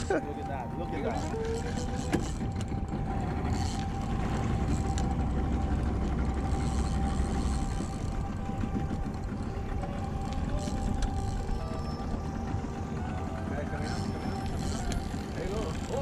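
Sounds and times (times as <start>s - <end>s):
outboard motor running: 0.0s - 16.0s
rumble of wind and water: 0.0s - 16.0s.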